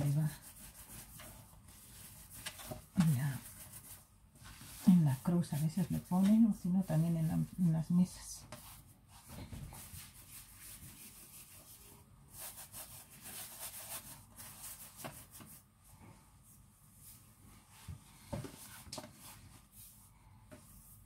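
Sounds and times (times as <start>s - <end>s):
hands rubbing dough on wood: 0.0s - 21.0s.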